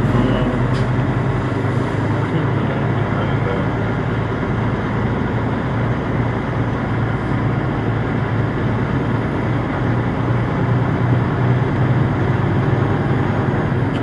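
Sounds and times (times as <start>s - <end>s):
diesel truck engines idling: 0.0s - 14.0s.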